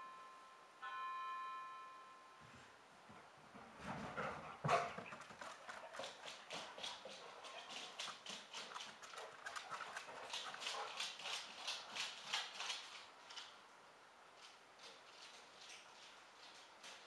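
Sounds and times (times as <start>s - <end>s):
dogs running footsteps: 3.1s - 17.0s.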